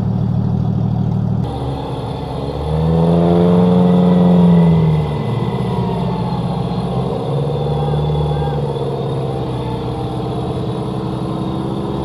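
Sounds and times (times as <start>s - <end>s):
engine revving hard: 1.4s - 12.0s.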